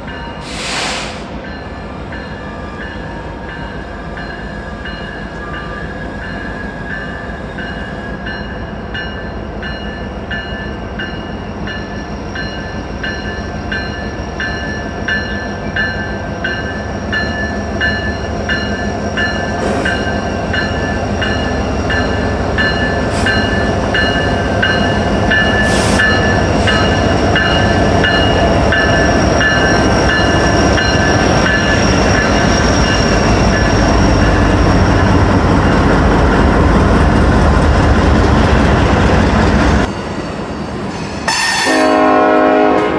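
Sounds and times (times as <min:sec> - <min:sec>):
train rumble: 0:00.0 - 0:42.9.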